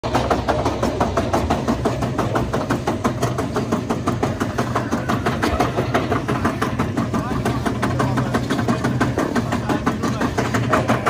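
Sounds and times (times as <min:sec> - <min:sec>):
roller coaster chain lift clattering: 0:00.0 - 0:11.0.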